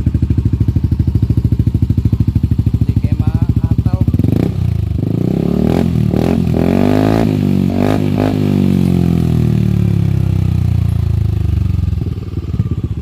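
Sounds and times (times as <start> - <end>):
motorcycle exhaust revving: 0.0 - 13.0.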